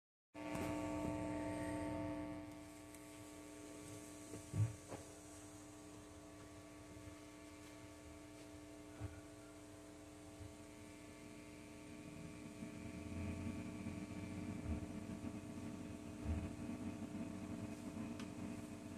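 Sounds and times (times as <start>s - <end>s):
guitar amp hum and buzz: 0.4s - 18.9s.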